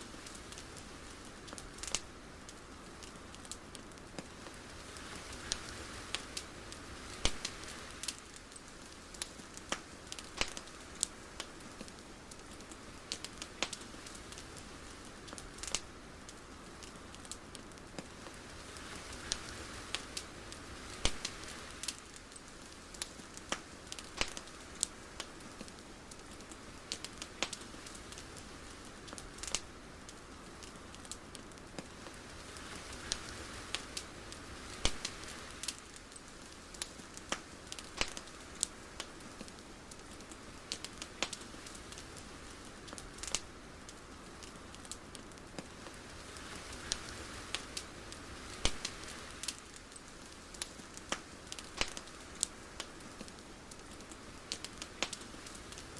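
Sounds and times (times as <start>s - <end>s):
sharp crackles and pops: 0.0s - 55.9s
soft steady hiss: 0.0s - 55.9s.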